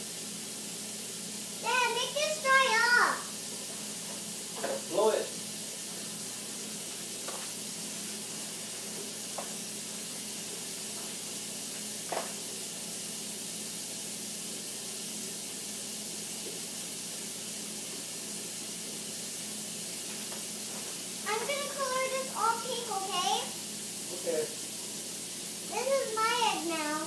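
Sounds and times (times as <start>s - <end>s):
room noise hiss: 0.0s - 27.0s.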